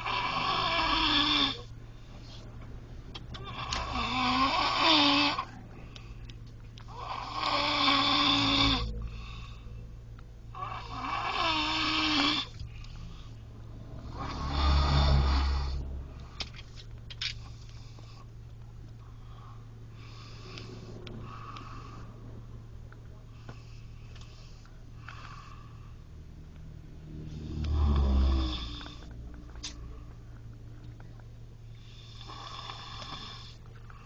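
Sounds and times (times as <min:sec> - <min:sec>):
quiet breathing: 0:05.3 - 0:11.3, 0:11.9 - 0:16.7, 0:17.3 - 0:34.0.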